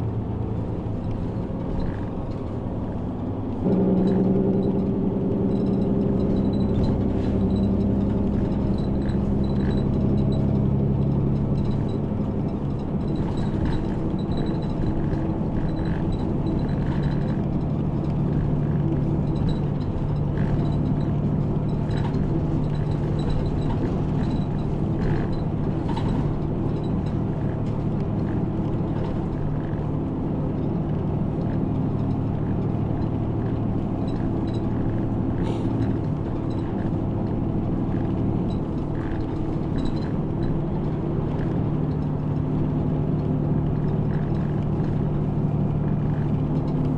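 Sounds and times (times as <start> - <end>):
bus diesel engine running: 0.0 - 46.9
road rumble: 0.0 - 46.9
light rattles: 0.4 - 46.9.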